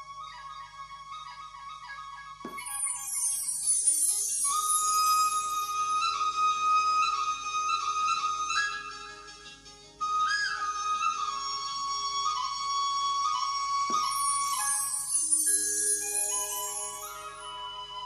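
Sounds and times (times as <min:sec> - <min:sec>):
flute melody: 0:00.0 - 0:18.0
soft accompaniment: 0:02.4 - 0:18.0.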